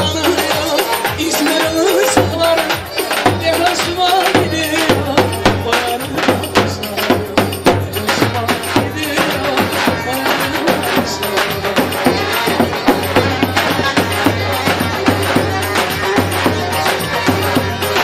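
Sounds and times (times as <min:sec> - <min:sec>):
drum beating steady rhythm: 0:00.0 - 0:18.0.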